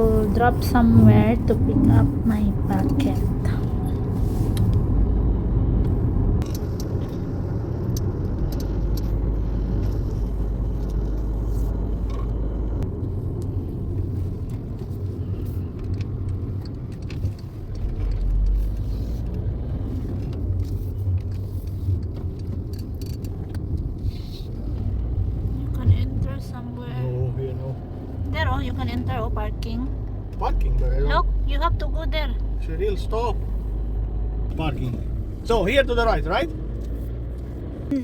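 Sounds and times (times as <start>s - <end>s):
road and engine rumble: 0.0s - 38.0s.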